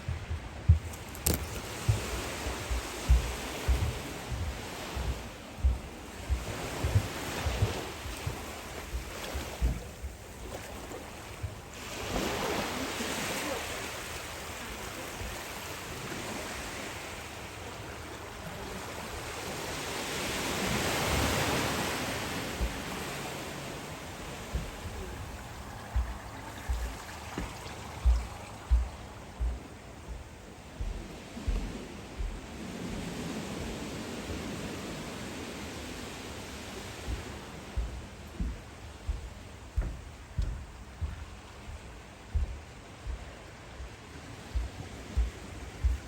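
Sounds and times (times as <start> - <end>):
surf washing onto beach: 0.0 - 46.0
wind rumbling on microphone: 0.0 - 46.0.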